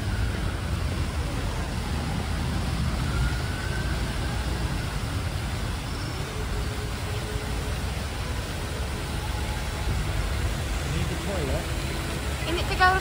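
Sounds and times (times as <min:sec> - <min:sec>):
city traffic hum: 0:00.0 - 0:13.0
fountain spray splashing: 0:00.0 - 0:13.0.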